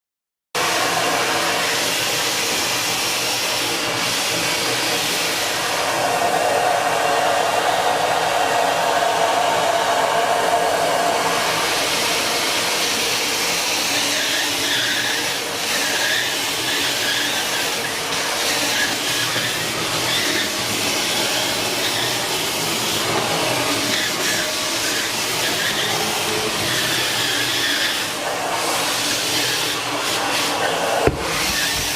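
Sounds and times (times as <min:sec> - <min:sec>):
vacuum nozzle squealing: 0:00.6 - 0:06.1, 0:10.8 - 0:31.9
vacuum cleaner running: 0:00.6 - 0:31.9.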